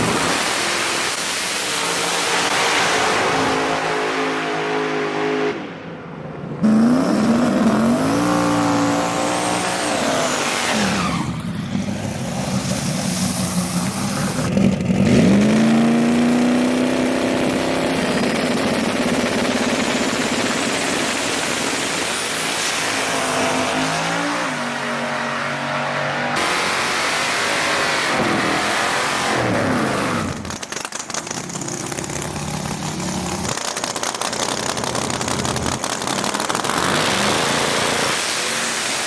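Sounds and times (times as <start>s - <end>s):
drag racing truck engine: 0.0s - 39.0s.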